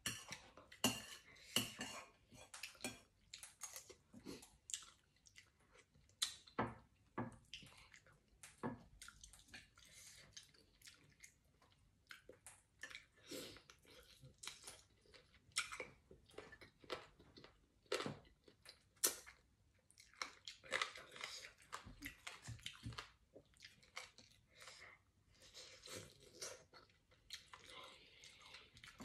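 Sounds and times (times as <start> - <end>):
person chewing with mouth clicks: 2.4 - 6.6, 7.4 - 29.0.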